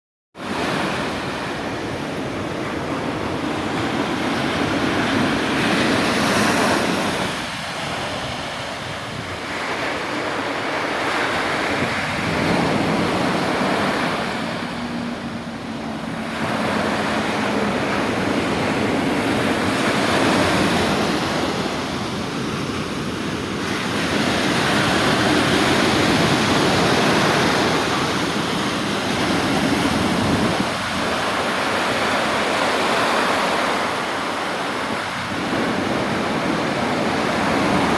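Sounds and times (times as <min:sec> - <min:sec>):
stormy sea surf breaking on beach: 0:00.4 - 0:37.9
wind over microphone: 0:00.4 - 0:37.9.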